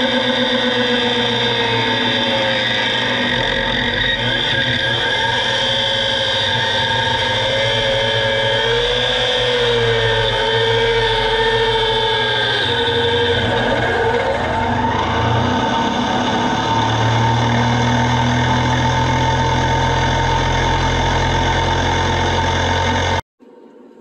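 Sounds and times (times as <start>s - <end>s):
whine of meshing gears and motor: 0.0s - 23.2s.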